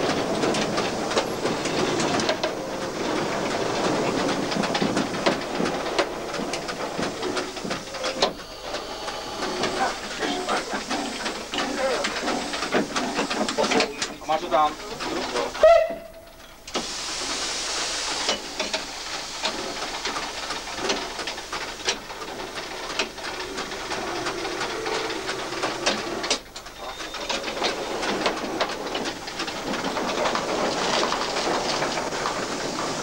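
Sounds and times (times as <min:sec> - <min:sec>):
steam hissing: 0:00.0 - 0:33.0.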